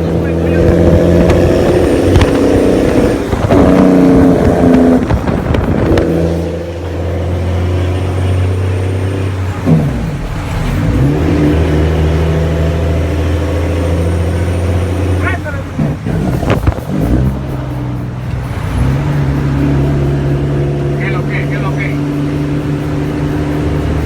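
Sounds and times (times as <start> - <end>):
truck diesel engine growling: 0.0 - 24.0.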